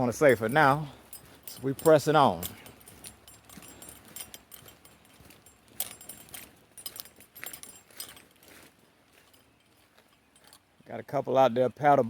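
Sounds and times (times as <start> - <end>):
metal gear jingling while walking: 0.0 - 10.9.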